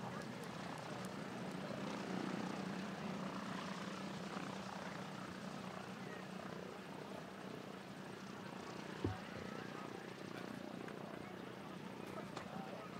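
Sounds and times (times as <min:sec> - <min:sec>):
propeller aircraft engines droning: 0:00.0 - 0:12.9.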